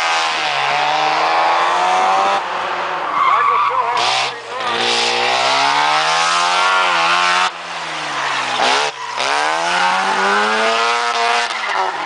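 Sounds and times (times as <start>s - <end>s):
rotary engine revving: 0.0s - 12.0s.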